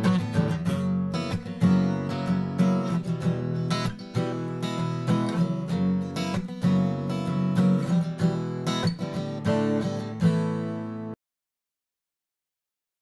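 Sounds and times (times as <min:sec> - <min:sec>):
acoustic guitar strummed chords: 0:00.0 - 0:11.2.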